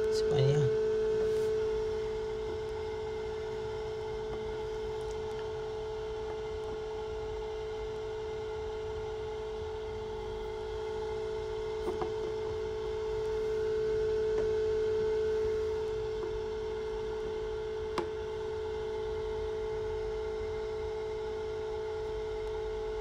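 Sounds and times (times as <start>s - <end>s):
incubator humming: 0.0s - 23.0s.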